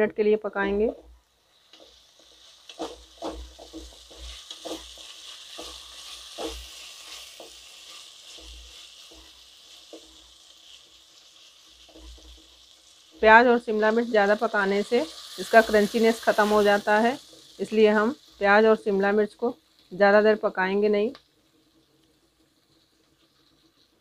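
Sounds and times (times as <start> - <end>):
vegetables sizzling in oil: 0.0 - 24.0
spatula scraping and knocking pan: 0.9 - 18.6, 21.4 - 24.0.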